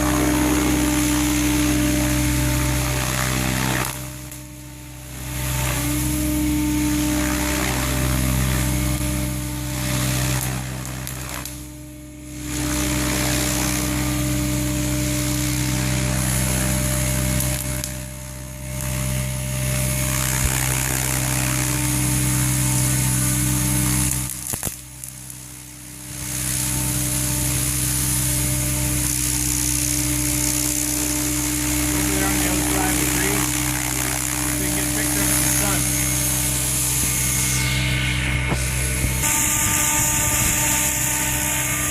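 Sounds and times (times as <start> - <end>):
helicopter rotor and motor whine: 0.0 - 41.9.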